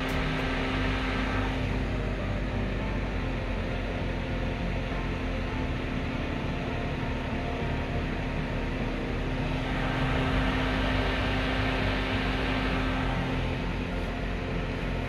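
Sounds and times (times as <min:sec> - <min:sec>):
exhaust fans rushing air: 0:00.0 - 0:15.0.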